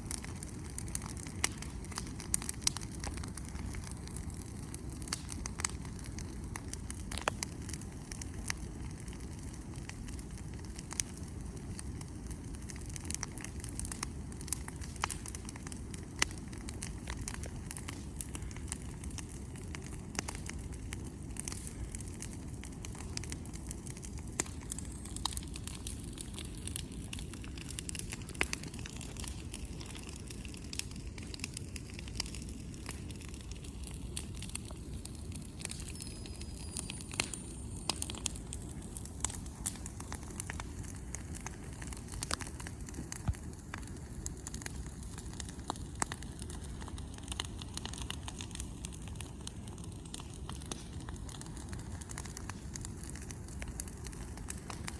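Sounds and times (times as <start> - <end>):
bonfire crackling and popping: 0.0 - 54.9
fire low rumble: 0.0 - 54.9.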